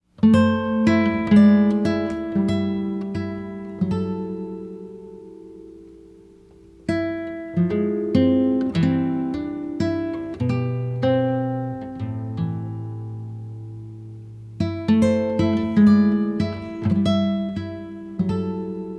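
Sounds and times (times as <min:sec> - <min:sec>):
plucked acoustic guitar: 0:00.1 - 0:18.9.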